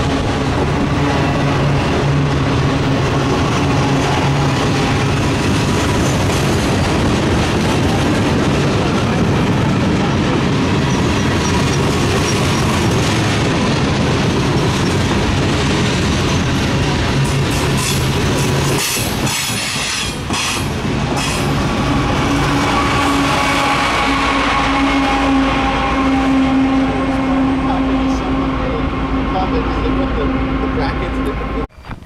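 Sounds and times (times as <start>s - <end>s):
freight train wheels clattering: 0.0s - 25.8s.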